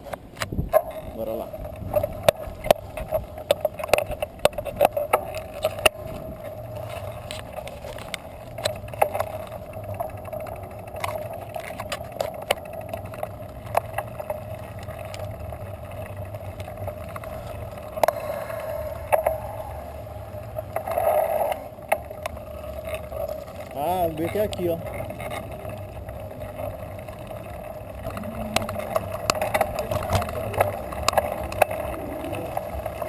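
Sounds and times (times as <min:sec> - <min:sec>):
bicycle clicks and rattles: 0:00.0 - 0:33.0
bicycle hum: 0:00.0 - 0:33.0.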